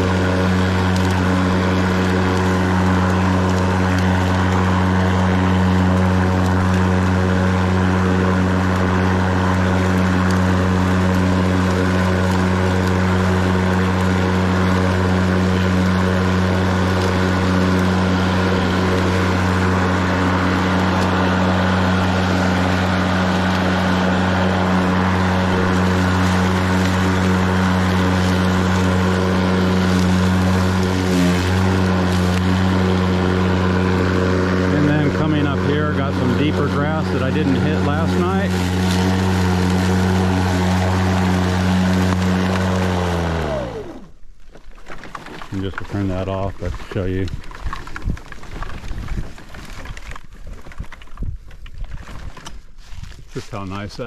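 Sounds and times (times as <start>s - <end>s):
electric lawn mower humming: 0.0s - 44.3s.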